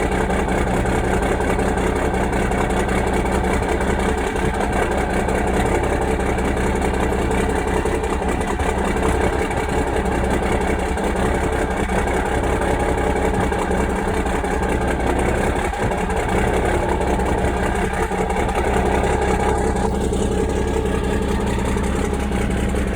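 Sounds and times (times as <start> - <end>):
diesel truck engine idling: 0.0 - 22.9.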